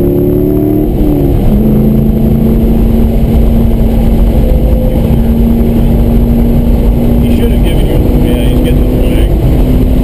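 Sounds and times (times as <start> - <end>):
car engine droning: 0.0 - 10.0
road and wind rumble: 0.0 - 10.0.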